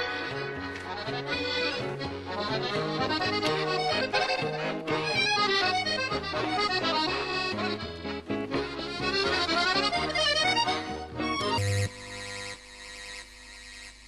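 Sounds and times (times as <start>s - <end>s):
accordion music: 0.0s - 13.3s.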